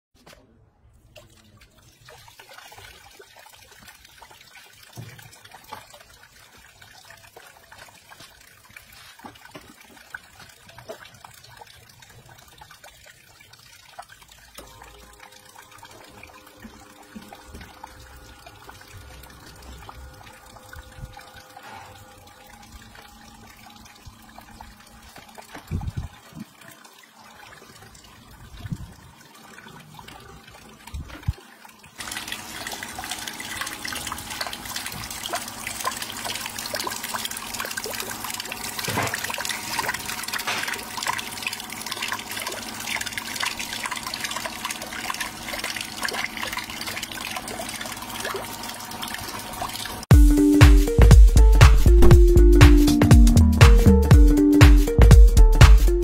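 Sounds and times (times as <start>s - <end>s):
water splashing and trickling: 0.2s - 56.0s.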